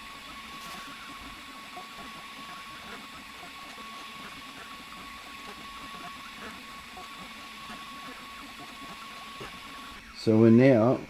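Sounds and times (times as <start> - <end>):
laser engraver motors whining: 0.0 - 11.0.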